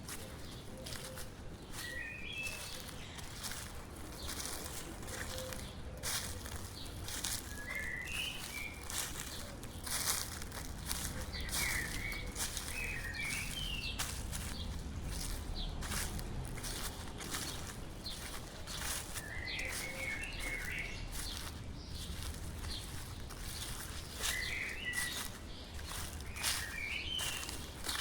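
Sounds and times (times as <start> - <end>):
footsteps crunching through dry leaves: 0.0 - 28.0
songbird chirping: 0.0 - 28.0.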